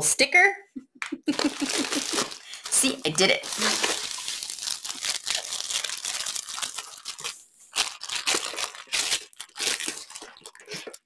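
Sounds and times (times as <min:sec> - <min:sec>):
plastic sleeve crinkling and tearing: 0:01.3 - 0:11.0.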